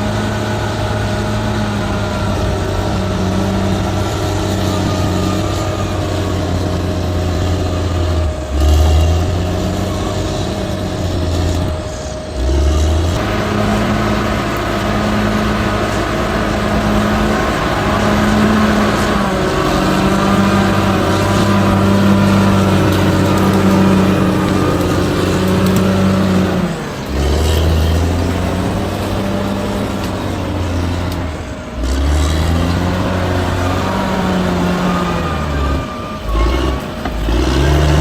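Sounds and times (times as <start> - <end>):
bulldozer diesel engine under load: 0.0 - 38.0.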